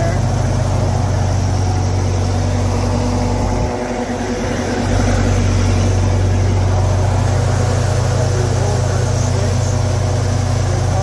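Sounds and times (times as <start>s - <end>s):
welder engine running: 0.0s - 11.0s.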